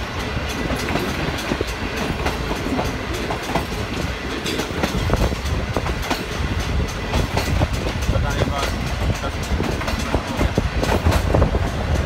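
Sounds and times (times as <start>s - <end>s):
train coach rumbling: 0.0s - 12.0s.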